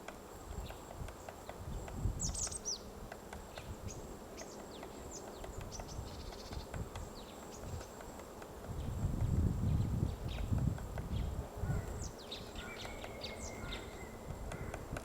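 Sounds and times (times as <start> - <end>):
woodpecker tapping wood: 0.0 - 9.5, 10.2 - 11.9, 12.5 - 15.0
small birds chirping: 0.0 - 15.0.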